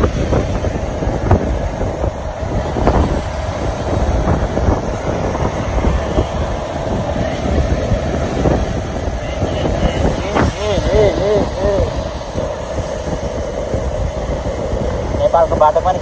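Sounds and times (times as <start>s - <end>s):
motorcycle engine and road rumble: 0.0s - 16.0s
wind buffeting microphone: 0.0s - 16.0s.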